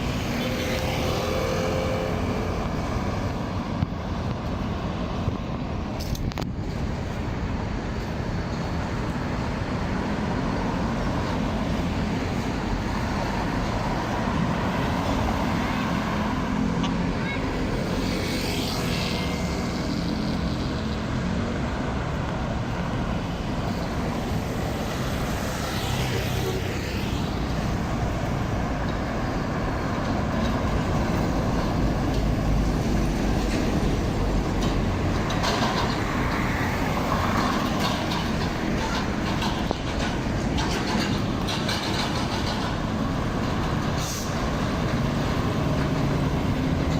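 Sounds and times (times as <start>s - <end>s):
passing traffic: 0.0s - 46.9s.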